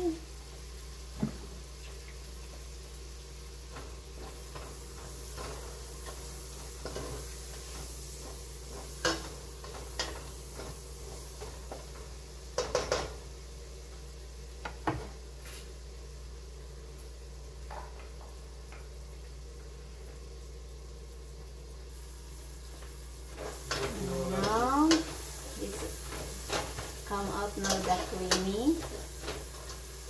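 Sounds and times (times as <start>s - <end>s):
vegetables sizzling in a metal pot: 0.0s - 30.0s.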